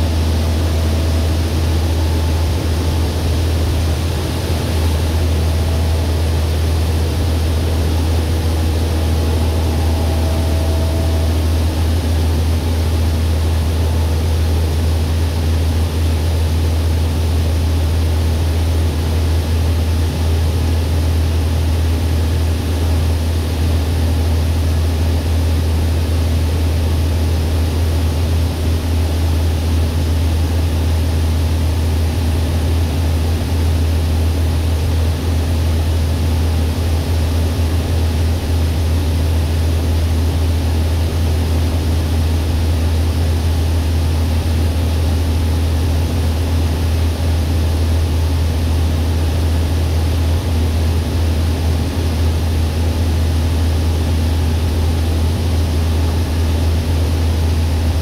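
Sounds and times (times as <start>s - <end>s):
heavy machinery engine droning: 0.0s - 58.0s.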